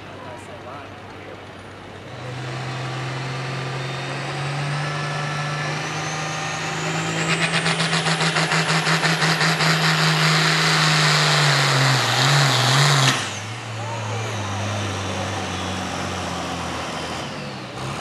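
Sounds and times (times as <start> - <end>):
diesel tractor engine running hard: 0.0 - 18.0.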